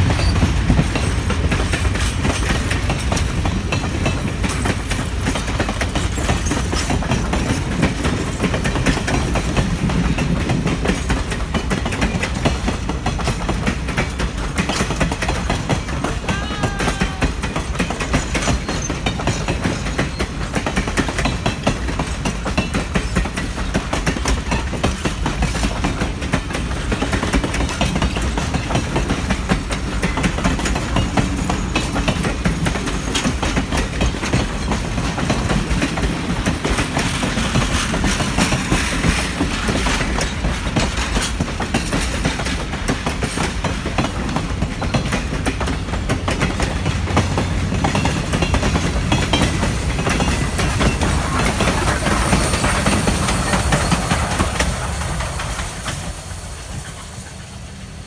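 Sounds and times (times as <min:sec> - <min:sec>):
train low rumble: 0:00.0 - 0:58.0
train wheels clattering over rail joints: 0:00.0 - 0:58.0.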